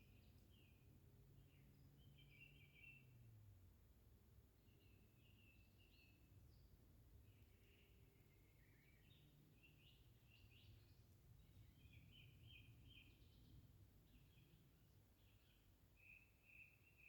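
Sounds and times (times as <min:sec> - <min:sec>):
faint birdsong chirping: 0:00.0 - 0:03.5, 0:04.6 - 0:17.0.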